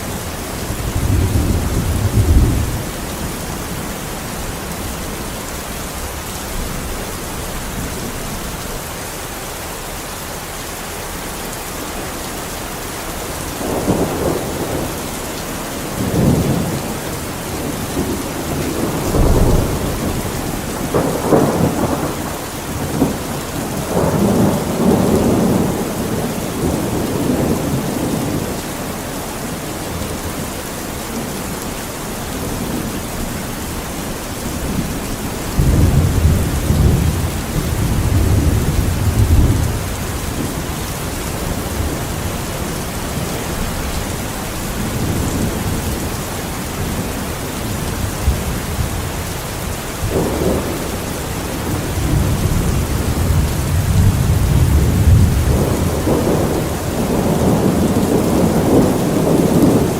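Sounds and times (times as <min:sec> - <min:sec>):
rolling thunder: 0:00.0 - 0:08.8, 0:13.6 - 0:29.0, 0:32.5 - 0:59.9
heavy rain: 0:00.0 - 0:59.9.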